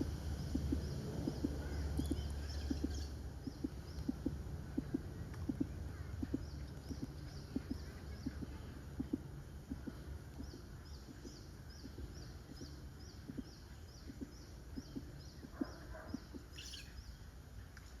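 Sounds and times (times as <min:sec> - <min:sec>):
low background rumble: 0:00.0 - 0:17.8
faint low ticks: 0:00.0 - 0:18.0
small bird chirping: 0:00.2 - 0:17.4.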